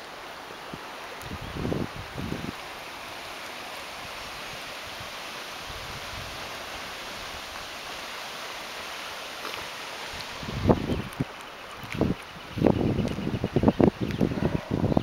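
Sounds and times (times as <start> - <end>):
fast-flowing river water: 0.0 - 15.0.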